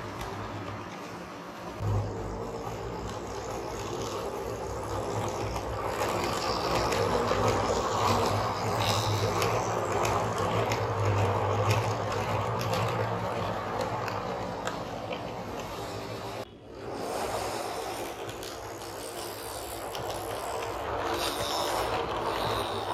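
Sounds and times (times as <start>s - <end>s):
model train motor humming: 0.0s - 22.9s
wheels clicking over rail joints: 0.0s - 22.9s.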